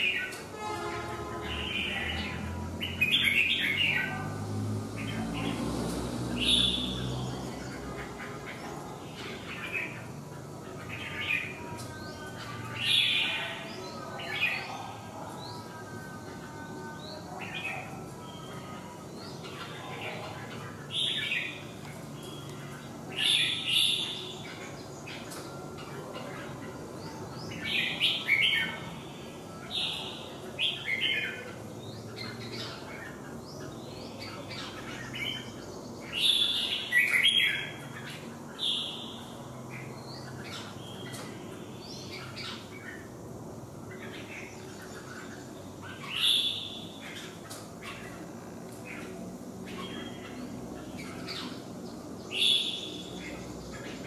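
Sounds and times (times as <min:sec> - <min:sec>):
bulbuls singing: 0:00.0 - 0:54.0.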